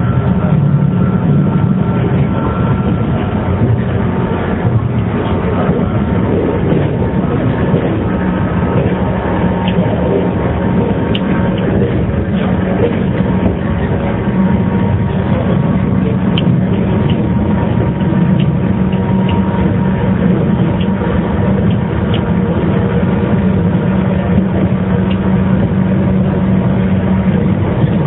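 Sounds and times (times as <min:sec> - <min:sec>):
electric train motor hum: 0:00.0 - 0:28.0
wheels rumbling on rail: 0:00.0 - 0:28.0.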